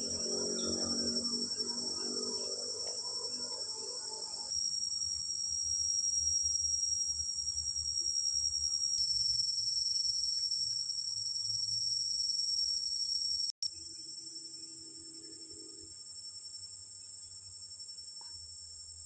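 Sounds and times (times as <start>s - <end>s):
shrill insect chorus: 0.0s - 19.0s.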